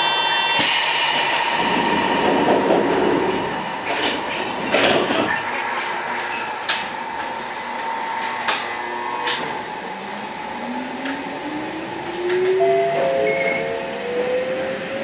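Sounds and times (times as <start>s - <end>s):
electric train moving off: 0.0s - 15.0s
train motor whine rising: 0.0s - 15.0s.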